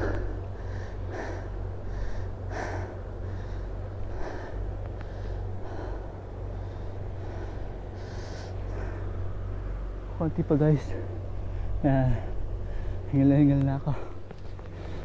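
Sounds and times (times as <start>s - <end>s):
man panting heavily: 0.0s - 9.9s, 10.8s - 13.1s, 13.8s - 15.0s
low steady rumble: 0.0s - 15.0s.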